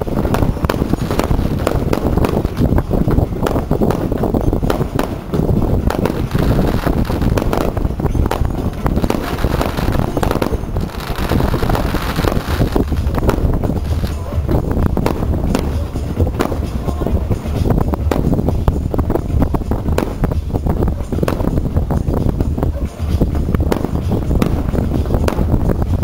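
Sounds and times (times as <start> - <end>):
fireworks bangs and crackles: 0.0 - 26.0
low rumble: 0.0 - 26.0.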